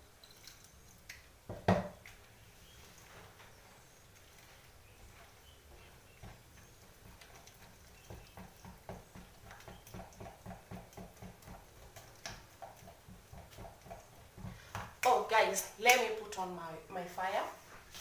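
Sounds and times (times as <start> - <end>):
hands mixing batter in bowl: 0.0 - 16.3.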